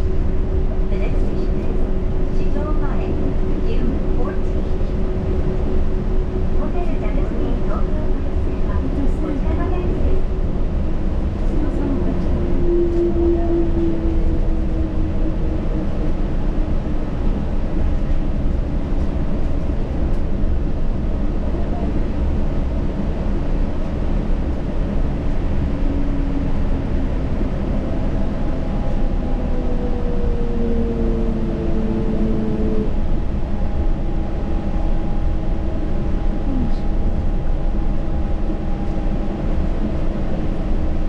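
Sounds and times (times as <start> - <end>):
train running low rumble: 0.0 - 41.0.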